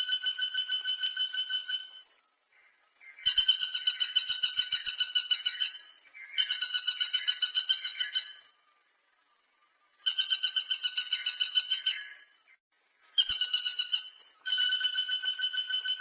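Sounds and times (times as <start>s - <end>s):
woodpecker rattling trill calls: 0.0s - 8.6s, 10.0s - 12.5s, 13.2s - 16.0s.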